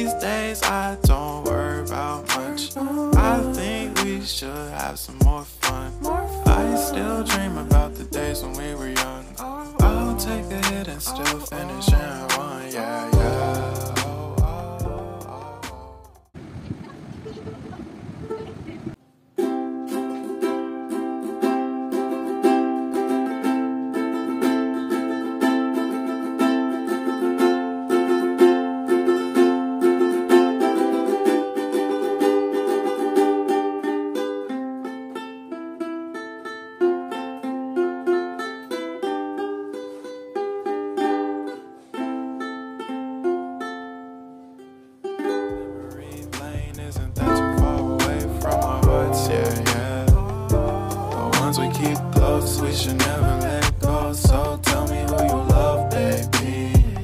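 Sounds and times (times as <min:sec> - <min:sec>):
ukulele strumming: 0:00.0 - 0:16.3, 0:19.4 - 0:57.0.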